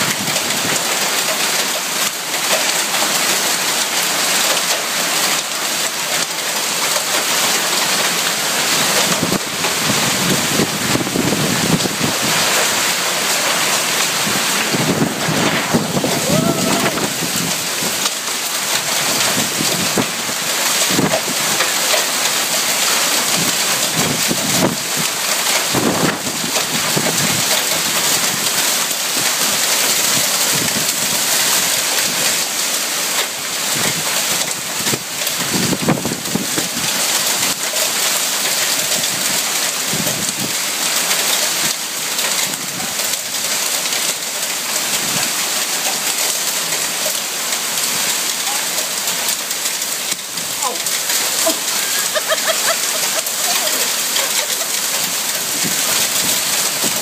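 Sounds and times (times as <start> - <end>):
hail and heavy rain: 0.0 - 57.0
hailstones striking: 0.0 - 57.0.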